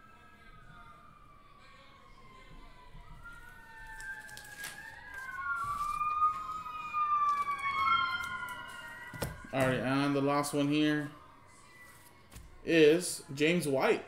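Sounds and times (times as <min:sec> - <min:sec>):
emergency vehicle siren wailing: 0:00.0 - 0:12.3.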